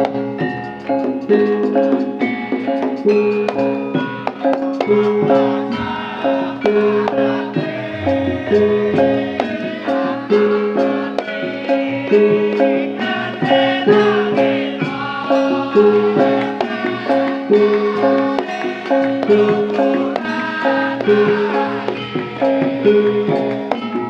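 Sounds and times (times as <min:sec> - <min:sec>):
live music with repeating melody: 0:00.0 - 0:24.0.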